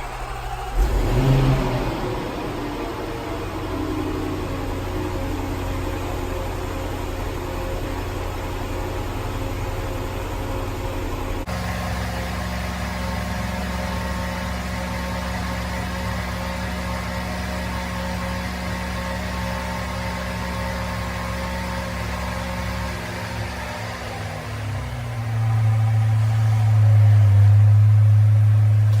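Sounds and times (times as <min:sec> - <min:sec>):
car engine idling: 0:00.0 - 0:29.0
engine revving: 0:00.0 - 0:29.0.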